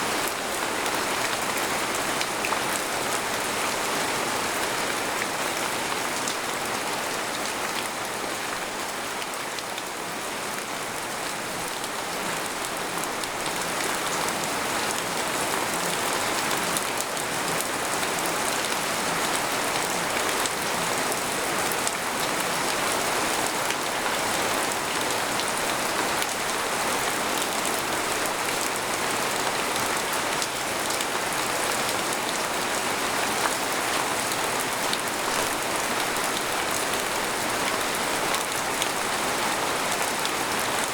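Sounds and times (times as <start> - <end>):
rain on a tent: 0.0 - 40.9.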